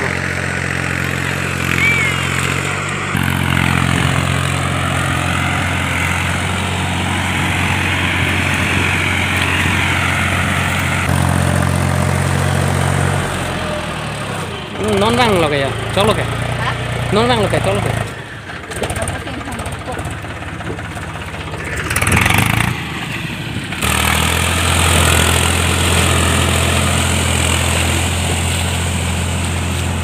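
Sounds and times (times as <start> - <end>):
tractor engine humming: 0.0 - 30.0.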